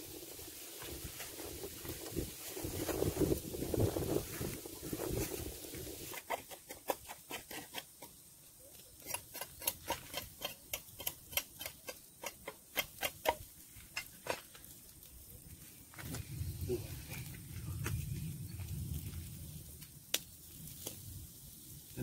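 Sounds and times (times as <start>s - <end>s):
grill fire crackling and popping: 0.0s - 22.0s.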